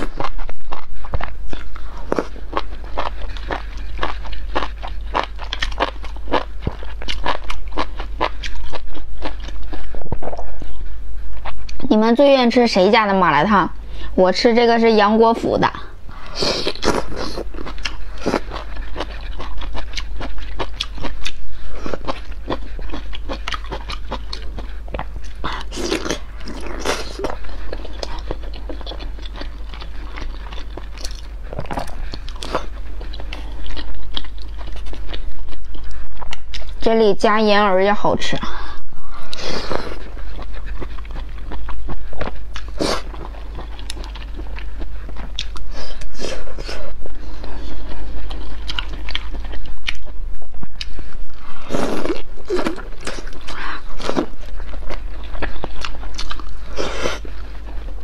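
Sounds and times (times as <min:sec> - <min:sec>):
wet crunchy chewing: 0:00.0 - 0:11.9, 0:16.2 - 0:36.9, 0:39.2 - 0:58.0.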